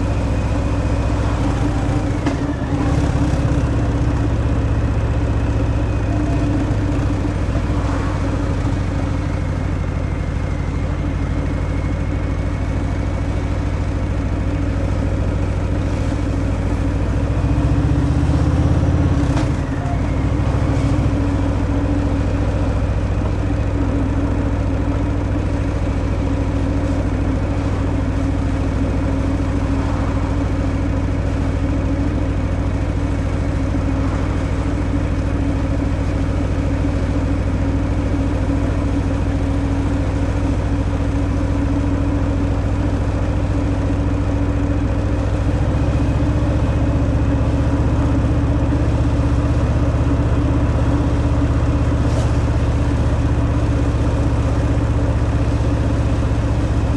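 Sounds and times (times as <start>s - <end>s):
motorcycle engine rumbling: 0.0s - 56.9s.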